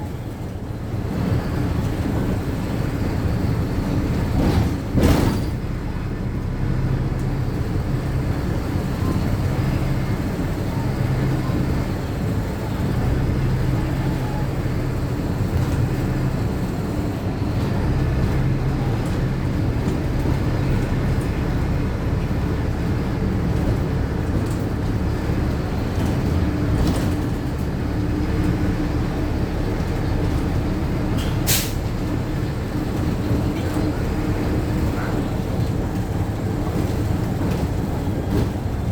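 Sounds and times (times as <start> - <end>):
bus engine droning: 0.0 - 38.9
road and cabin noise: 0.0 - 38.9.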